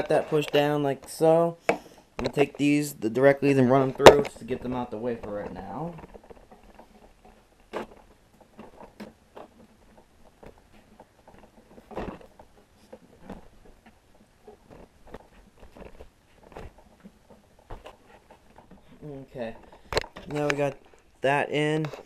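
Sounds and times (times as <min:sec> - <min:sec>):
hands handling wires: 0:03.4 - 0:22.0.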